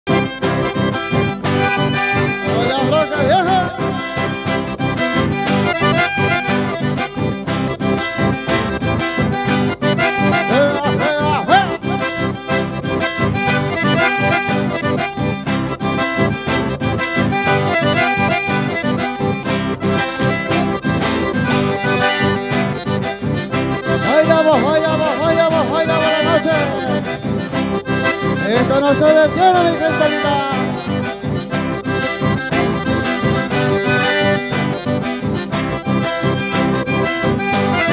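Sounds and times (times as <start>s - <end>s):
accordion dance music: 0.1s - 37.9s.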